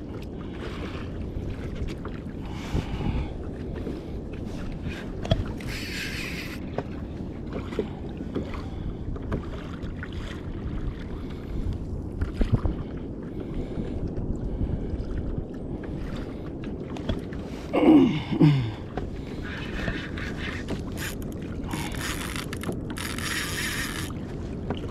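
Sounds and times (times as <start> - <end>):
water lapping against kayak: 0.0 - 24.9
wind on microphone: 0.0 - 24.9.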